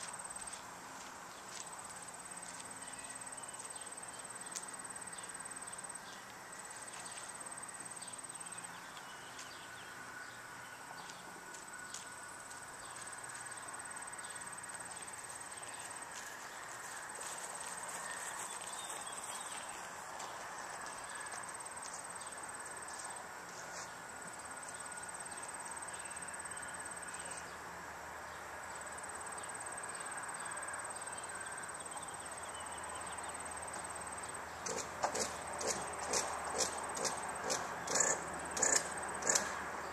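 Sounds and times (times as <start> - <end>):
low insect drone: 0.0 - 39.9.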